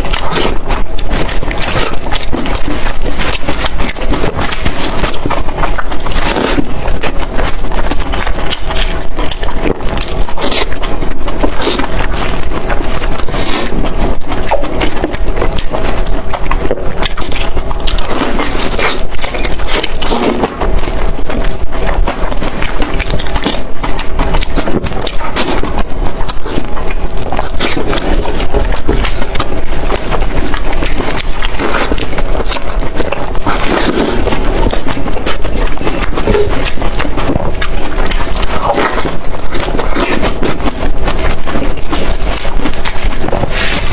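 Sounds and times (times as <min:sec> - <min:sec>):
chewing with wet smacks: 0:00.0 - 0:43.9.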